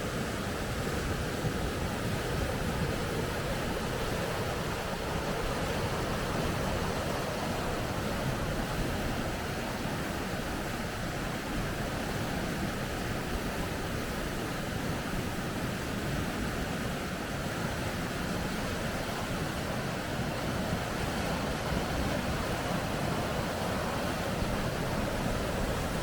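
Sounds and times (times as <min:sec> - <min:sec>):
water rushing over rapids: 0:00.0 - 0:26.0.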